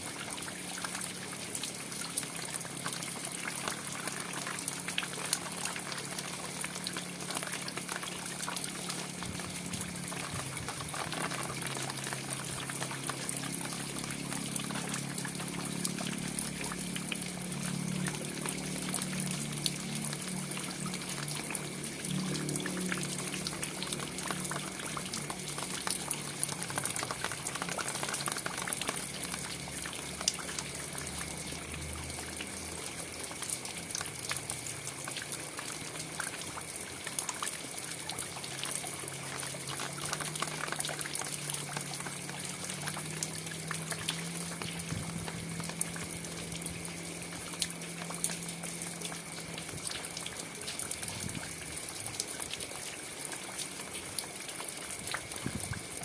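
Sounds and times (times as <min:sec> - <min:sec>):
rain falling: 0:00.0 - 0:56.0
sharp ticks of raindrops: 0:00.0 - 0:56.0.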